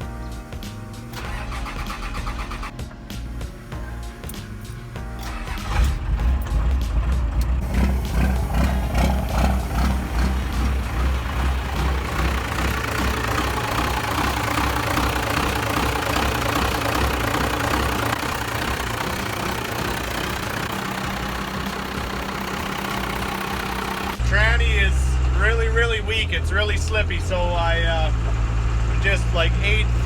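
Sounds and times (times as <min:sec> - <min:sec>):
vehicle engine running: 0:00.6 - 0:30.0
road and wind noise: 0:01.2 - 0:30.0.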